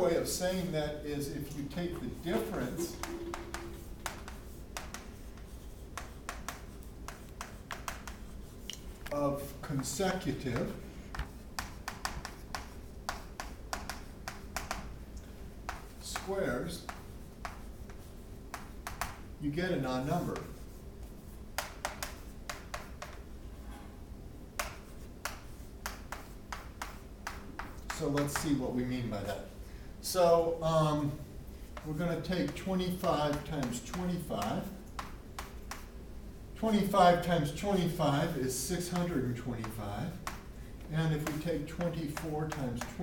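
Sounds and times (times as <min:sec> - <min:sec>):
chalk tapping and scratching: 0:00.2 - 0:23.3, 0:24.6 - 0:29.5, 0:30.6 - 0:36.0, 0:36.6 - 0:43.0.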